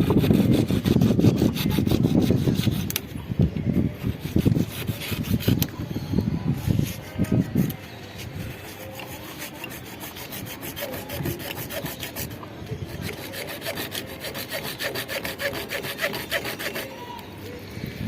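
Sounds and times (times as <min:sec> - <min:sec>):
hand tool rasping on hard surface: 0:00.0 - 0:03.0, 0:04.1 - 0:05.7, 0:06.8 - 0:17.0.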